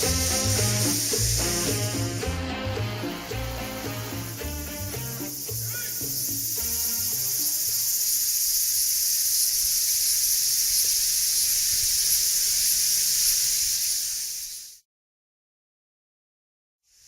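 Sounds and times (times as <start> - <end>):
high-pitched hiss: 0.0 - 14.8.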